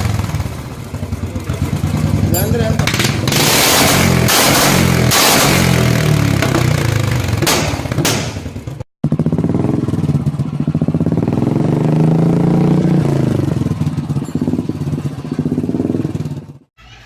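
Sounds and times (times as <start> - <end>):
motorcycle engine exhaust thumping: 0.0 - 16.7.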